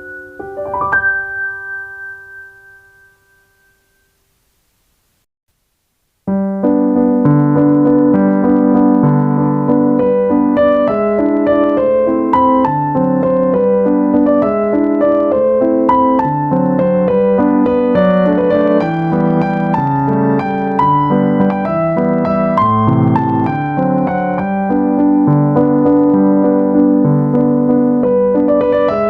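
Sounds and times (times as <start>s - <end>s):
piano music: 0.0s - 4.1s, 6.3s - 29.0s.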